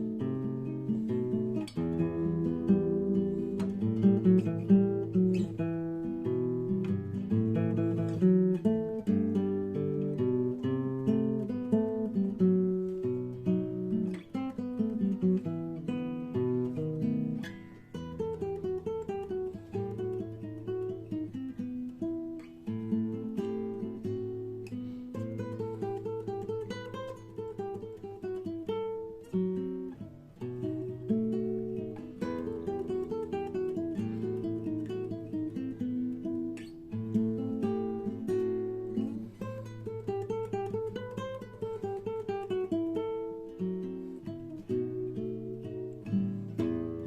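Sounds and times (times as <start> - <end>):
acoustic guitar picking and strumming: 0.0 - 47.0.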